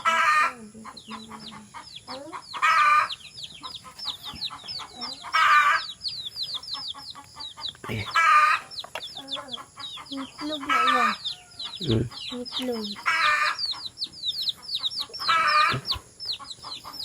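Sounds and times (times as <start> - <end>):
chicks peeping: 0.0 - 17.0
hen calling: 0.0 - 17.0.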